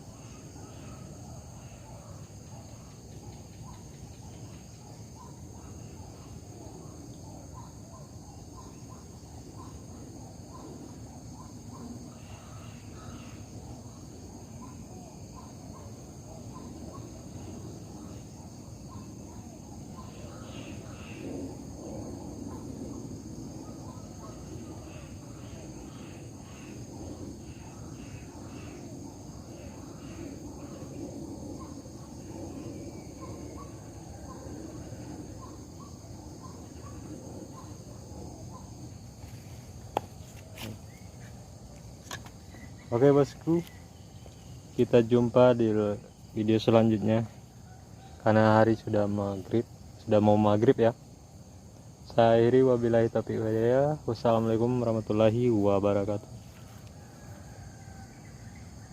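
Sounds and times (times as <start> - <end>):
short insect chirps: 0.0 - 52.2
crickets trilling: 0.0 - 58.9.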